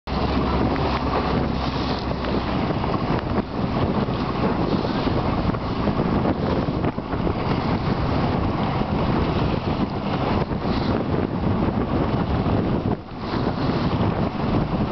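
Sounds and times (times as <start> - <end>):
choppy water splashing: 0.1 - 14.9
motorboat motor running: 0.1 - 14.9
wind buffeting microphone: 0.1 - 14.9.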